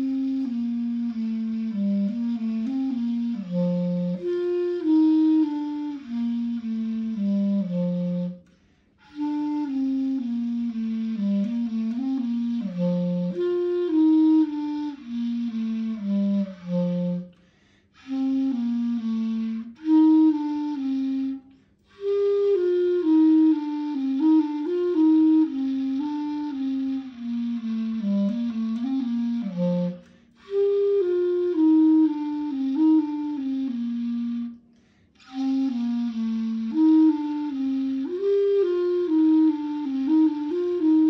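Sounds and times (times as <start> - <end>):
solo clarinet melody: 0.0 - 41.0.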